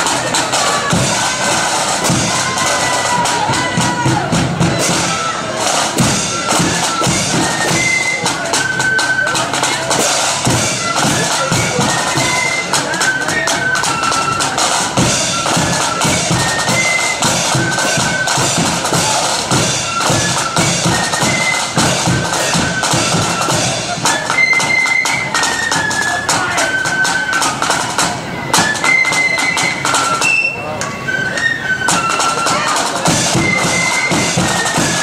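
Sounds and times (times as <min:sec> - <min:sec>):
flutes playing melody: 0:00.0 - 0:35.0
snare drums: 0:00.0 - 0:35.0.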